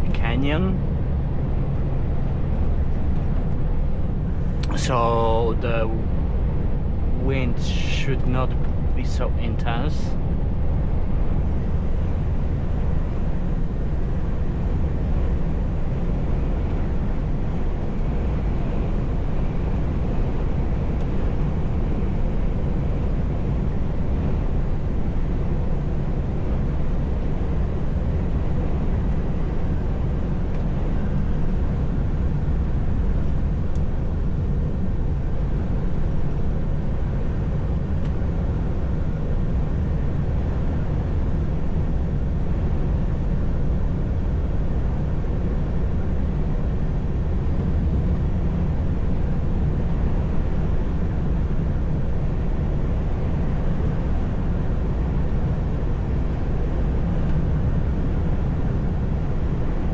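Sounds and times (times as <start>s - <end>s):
faint high hum: 0.0s - 59.9s
truck engine and road noise: 0.0s - 59.9s.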